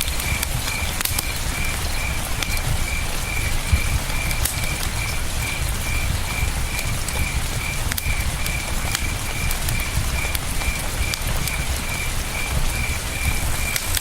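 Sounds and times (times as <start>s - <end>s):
campfire crackling and popping: 0.0s - 14.0s
cricket chirping: 0.0s - 14.0s.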